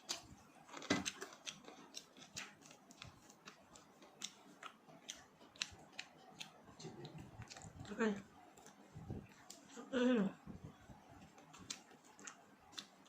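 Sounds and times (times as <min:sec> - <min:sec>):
crunchy chewing: 0:00.0 - 0:09.8, 0:10.7 - 0:13.0.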